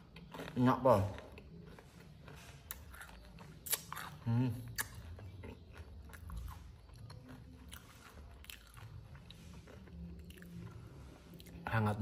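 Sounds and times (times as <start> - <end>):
person chewing crispy snacks: 0.0 - 11.9.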